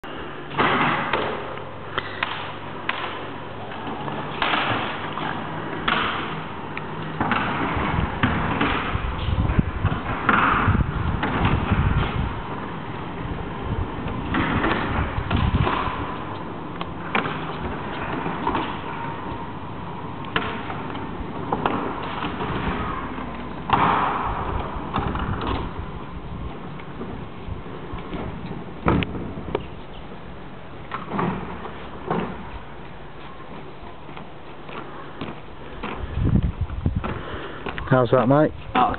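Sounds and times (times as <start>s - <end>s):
garage door motor hum: 0.0s - 36.8s.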